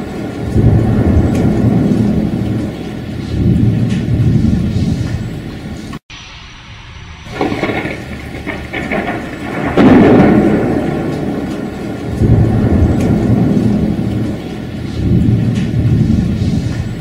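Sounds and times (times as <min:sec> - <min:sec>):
steady rain: 0:00.0 - 0:06.0, 0:07.2 - 0:17.0
thunder rumbling: 0:00.0 - 0:17.0.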